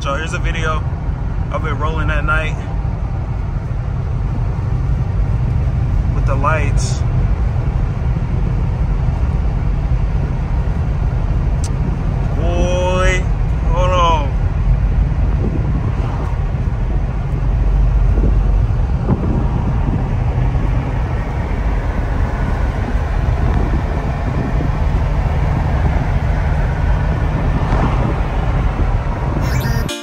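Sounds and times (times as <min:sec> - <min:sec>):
road and wind noise inside car: 0:00.0 - 0:29.9.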